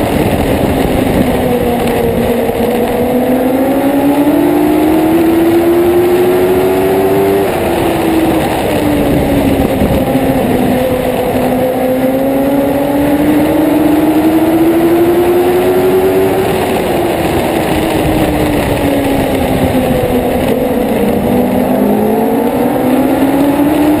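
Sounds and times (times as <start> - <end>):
race car engine revving: 0.0 - 24.0
steady rushing noise: 0.0 - 24.0.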